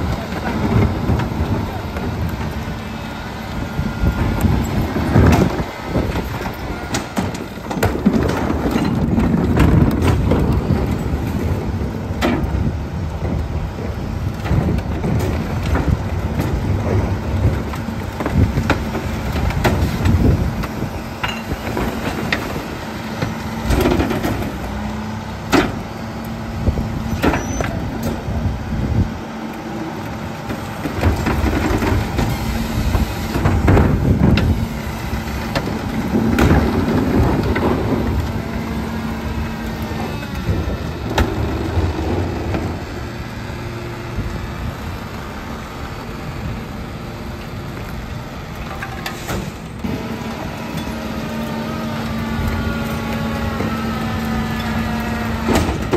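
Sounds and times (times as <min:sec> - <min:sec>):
garbage truck running: 0:00.0 - 0:55.9
hydraulic cart tipper: 0:00.0 - 0:55.9.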